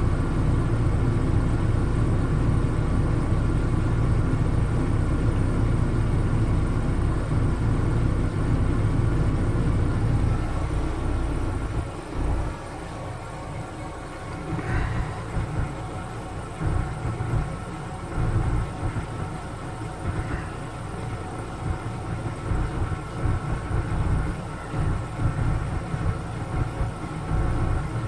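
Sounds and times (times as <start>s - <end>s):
diesel machinery rumbling: 0.0s - 28.0s.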